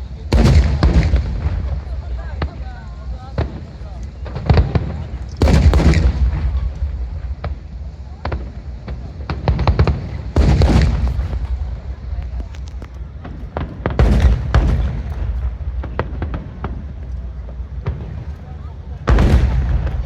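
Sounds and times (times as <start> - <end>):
firework shells booming: 0.0 - 20.0
fireworks crackling: 0.0 - 20.0.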